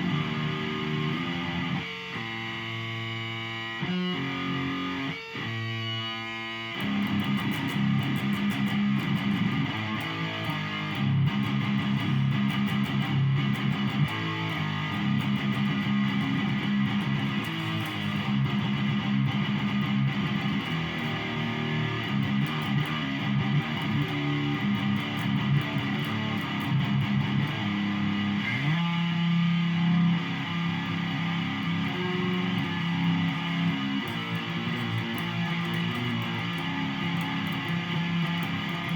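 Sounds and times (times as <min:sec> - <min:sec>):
electric guitar low riff: 0:00.0 - 0:38.9.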